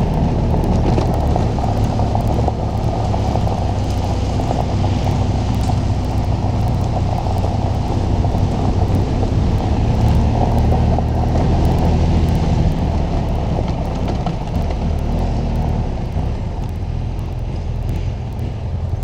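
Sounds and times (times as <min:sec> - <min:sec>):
motorcycle engine running: 0:00.0 - 0:19.0
tyre noise: 0:00.0 - 0:19.0
wind noise: 0:00.0 - 0:19.0.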